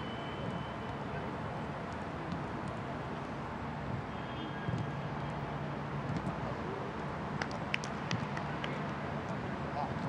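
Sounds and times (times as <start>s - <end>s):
open-air stadium ambience hum: 0.0s - 10.0s.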